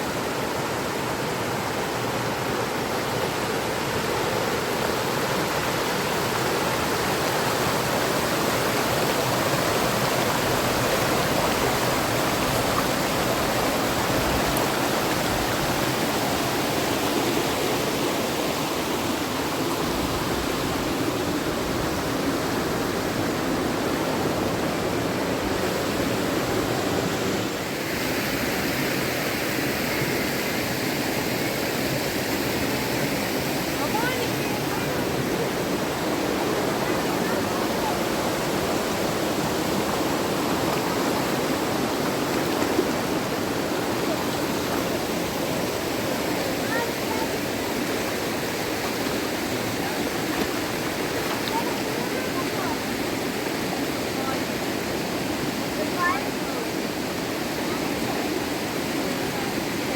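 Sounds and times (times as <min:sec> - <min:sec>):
fast river rushing: 0:00.0 - 0:59.9.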